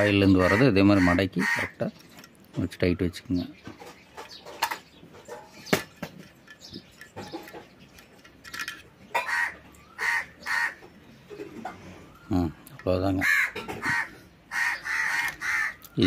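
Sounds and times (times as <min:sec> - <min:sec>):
harsh bird calls: 0:00.0 - 0:08.2, 0:09.0 - 0:16.0.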